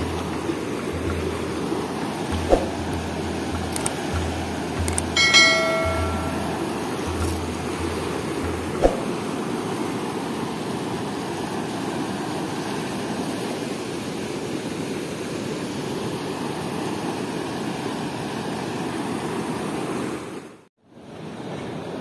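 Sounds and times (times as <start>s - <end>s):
river water rushing through weir: 0.0s - 22.0s.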